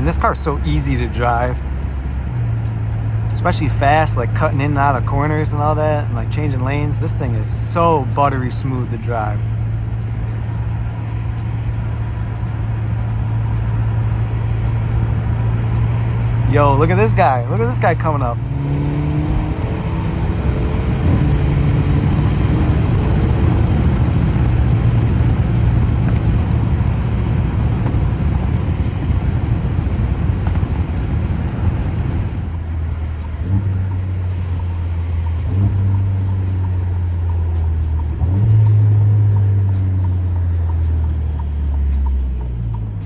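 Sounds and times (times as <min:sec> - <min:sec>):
car engine drone: 0:00.0 - 0:43.0
tyre and road noise: 0:00.0 - 0:43.0.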